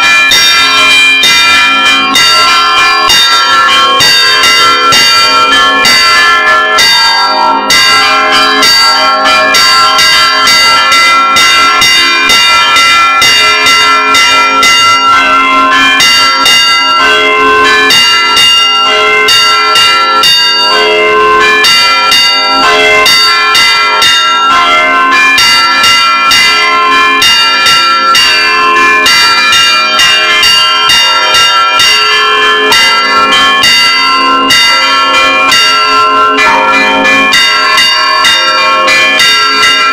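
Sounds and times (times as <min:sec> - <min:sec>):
church bells ringing fast: 0:00.0 - 0:39.9.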